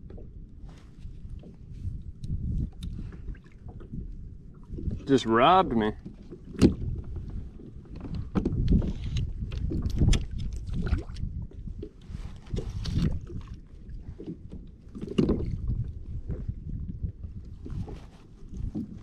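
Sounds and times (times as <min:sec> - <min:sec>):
wind rumble on microphone: 0:00.0 - 0:19.0
water splashing against kayak hull: 0:00.1 - 0:19.0.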